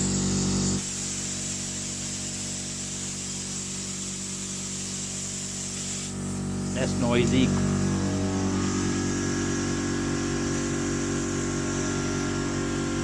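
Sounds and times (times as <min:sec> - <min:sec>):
muffled air compressor hum: 0:00.0 - 0:13.0.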